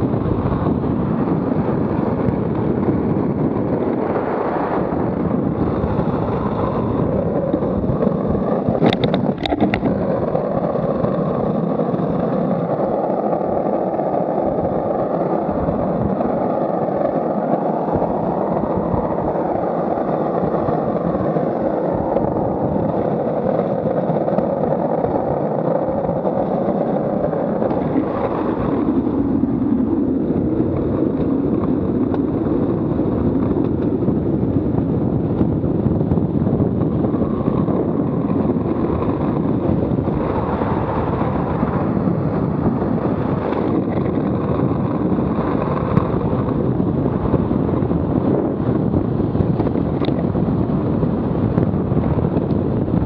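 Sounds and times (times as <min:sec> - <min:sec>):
skate wheels rolling on asphalt: 0:00.0 - 0:53.0
wind on microphone: 0:00.0 - 0:53.0.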